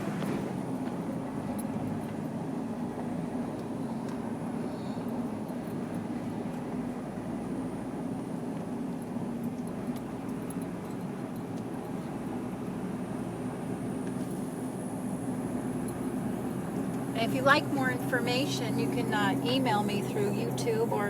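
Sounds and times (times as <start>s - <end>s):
vehicle engine drone: 0.0s - 21.0s.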